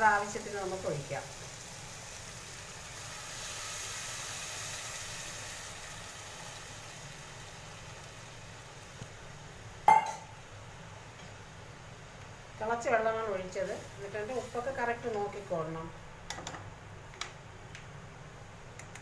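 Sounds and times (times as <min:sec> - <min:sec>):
water pouring and sizzling: 0:00.0 - 0:16.1.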